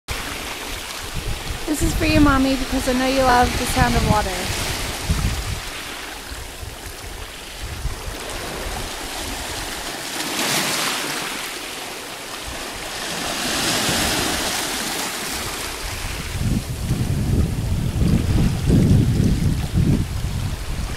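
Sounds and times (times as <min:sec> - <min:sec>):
sea waves washing over rocks: 0:00.1 - 0:20.9.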